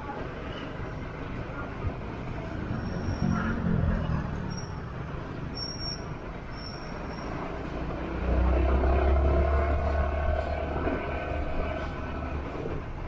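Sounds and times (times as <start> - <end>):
passing vehicle: 0.0 - 13.0.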